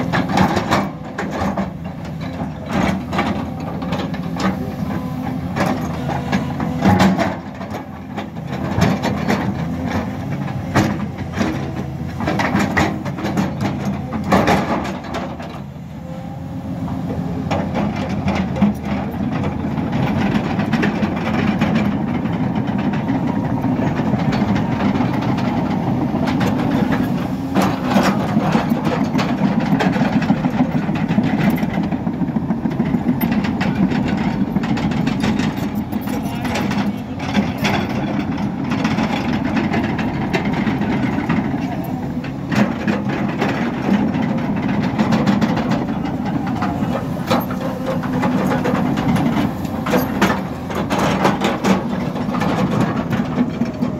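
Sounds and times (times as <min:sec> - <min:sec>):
excavator clanks and knocks: 0:00.0 - 0:53.9
excavator diesel engine running: 0:00.0 - 0:53.9.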